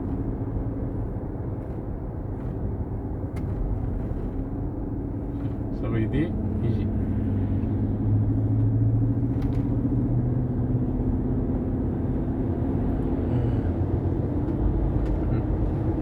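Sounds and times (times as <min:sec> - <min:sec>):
low drivetrain hum: 0:00.0 - 0:16.0
road noise in car cab: 0:00.0 - 0:16.0.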